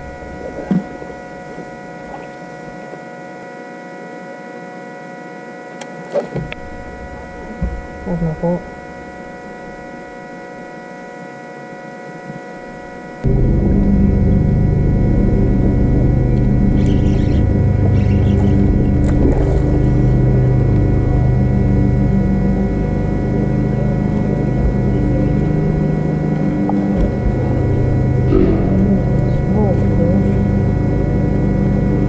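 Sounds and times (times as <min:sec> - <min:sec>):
electric motor humming: 0:00.0 - 0:32.0.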